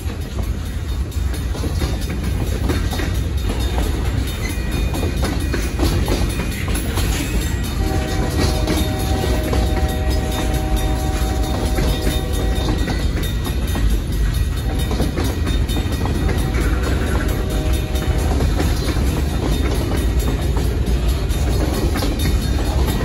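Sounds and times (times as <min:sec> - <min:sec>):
freight train rumble: 0:00.0 - 0:23.0
wheels clattering over rails: 0:00.0 - 0:23.0.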